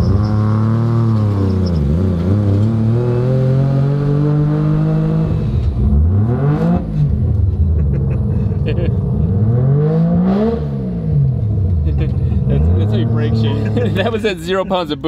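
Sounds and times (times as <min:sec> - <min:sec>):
rotary engine accelerating: 0:00.0 - 0:14.2.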